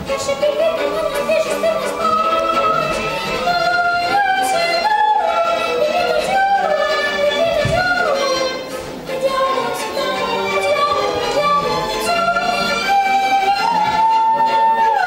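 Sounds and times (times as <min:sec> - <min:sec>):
boy singing: 0:00.0 - 0:15.0
instrumental accompaniment: 0:00.0 - 0:15.0.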